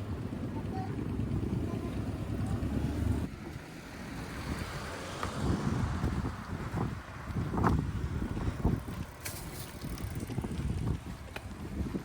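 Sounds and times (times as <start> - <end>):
vehicle low rumble: 0.0 - 12.0
wind buffeting microphone: 0.0 - 12.0.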